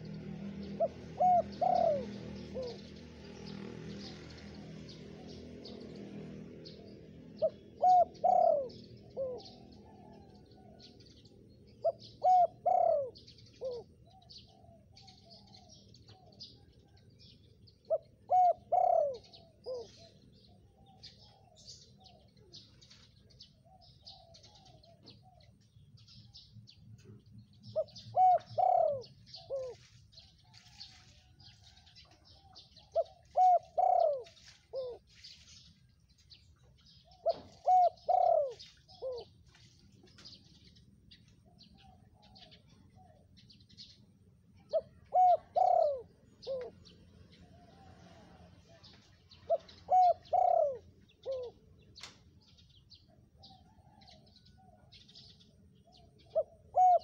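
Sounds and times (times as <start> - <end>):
dove cooing: 0.0 - 25.6, 26.2 - 35.4, 36.4 - 39.4, 41.4 - 44.0, 44.6 - 57.0
small birds chirping: 0.0 - 57.0.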